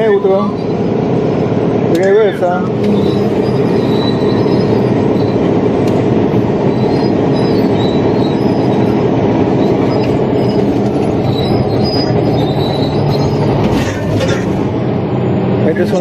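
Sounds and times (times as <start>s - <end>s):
bulldozer diesel drone: 0.0s - 16.0s
steel tracks squealing: 2.2s - 16.0s.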